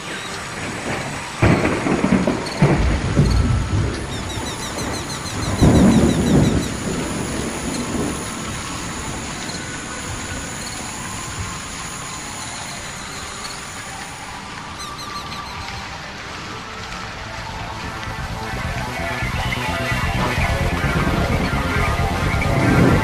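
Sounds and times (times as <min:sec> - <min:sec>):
rain hiss: 0:00.0 - 0:23.0
thunder rumble: 0:00.0 - 0:23.0.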